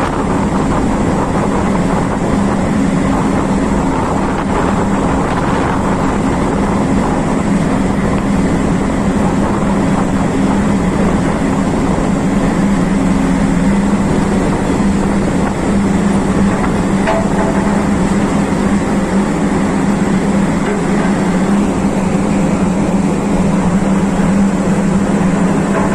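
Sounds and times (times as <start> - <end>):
constant rushing noise: 0.0 - 25.9
vehicle engine drone: 0.0 - 25.9.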